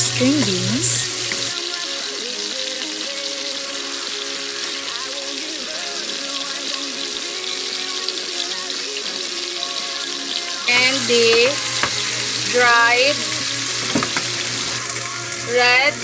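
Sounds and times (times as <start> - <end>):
instrumental background music: 0.0 - 16.0
oil sizzling in a wok: 0.0 - 16.0.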